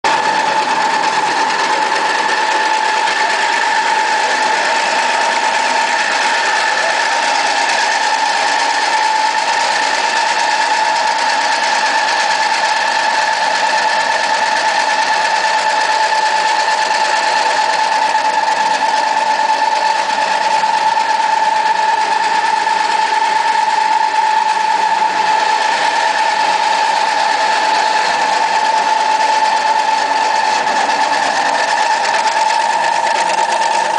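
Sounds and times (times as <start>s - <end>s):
pellet mill whining and rushing: 0.0s - 33.9s.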